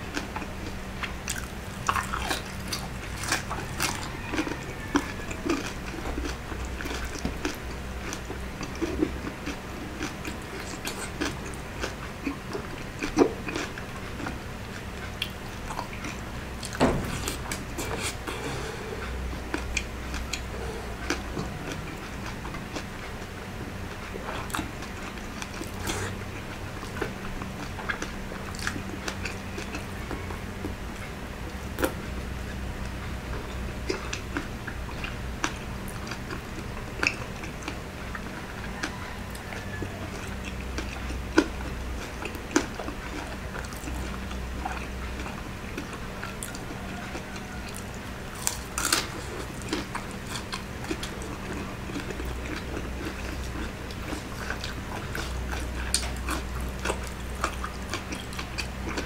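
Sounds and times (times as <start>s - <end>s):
chewing with wet mouth sounds: 0.0s - 59.0s
steady low hum: 0.0s - 59.0s.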